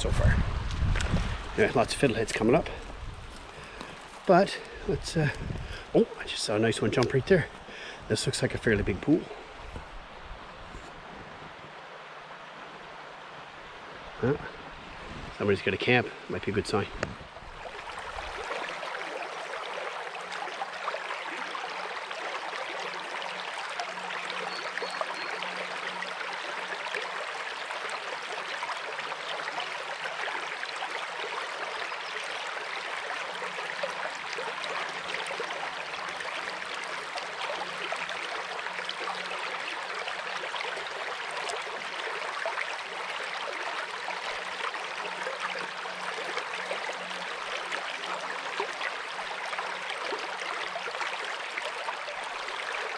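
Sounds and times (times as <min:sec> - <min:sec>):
brook water running over rocks: 0:00.0 - 0:52.9.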